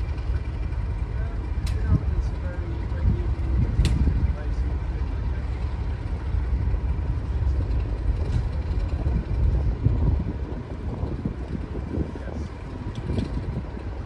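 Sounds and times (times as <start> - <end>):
distant diesel locomotive rumble: 0.0 - 14.0.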